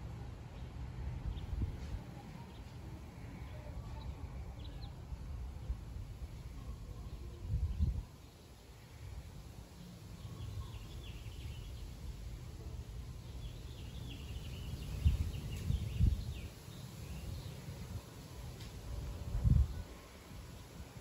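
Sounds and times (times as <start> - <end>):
steady low rumble: 0.0 - 21.0
birds chirping faintly: 0.4 - 21.0.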